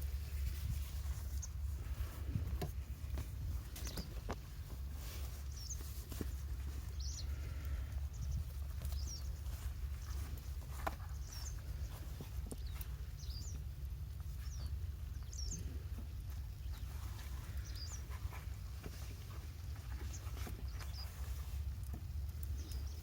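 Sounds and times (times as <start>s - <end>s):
steady low rumble: 0.0s - 23.0s
small bird chirping: 3.6s - 4.4s, 5.0s - 23.0s.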